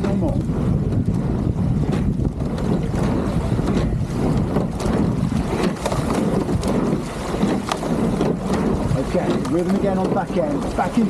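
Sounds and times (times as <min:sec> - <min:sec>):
water rushing along boat hull: 0:00.0 - 0:11.0
wind buffeting microphone: 0:00.0 - 0:11.0.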